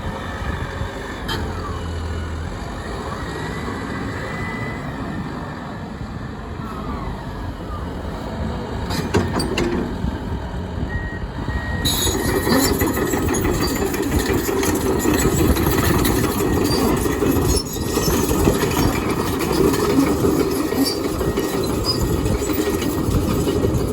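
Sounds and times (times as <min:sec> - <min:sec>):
excavator engine and hydraulics: 0:00.0 - 0:23.9.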